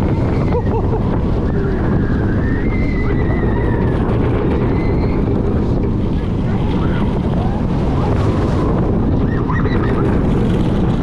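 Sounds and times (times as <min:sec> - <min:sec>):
rollercoaster wheels rumbling on rails: 0:00.0 - 0:11.0
wind rushing on microphone: 0:00.0 - 0:11.0.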